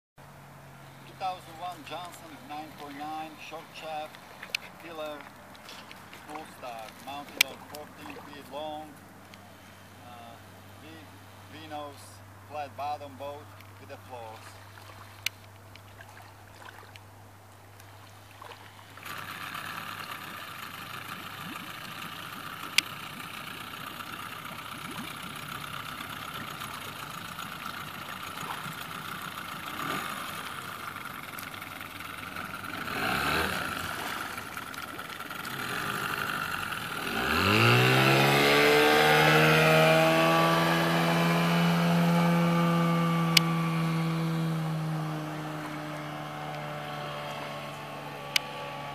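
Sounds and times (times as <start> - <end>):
outboard motor running: 0.2 - 48.9.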